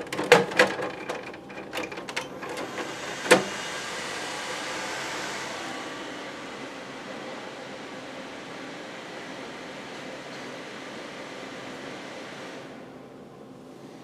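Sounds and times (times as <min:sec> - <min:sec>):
computer fans whirring: 0:00.0 - 0:14.0.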